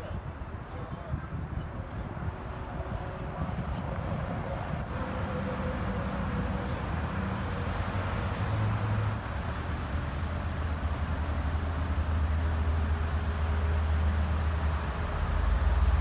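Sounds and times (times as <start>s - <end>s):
outdoor noise: 0.0s - 16.0s.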